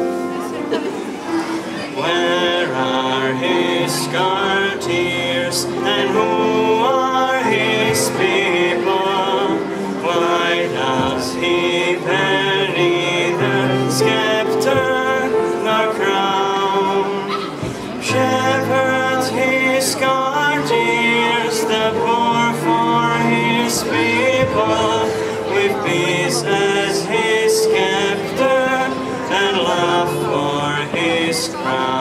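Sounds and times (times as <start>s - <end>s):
children's choir singing: 0.0s - 32.0s
instrumental accompaniment: 0.0s - 32.0s.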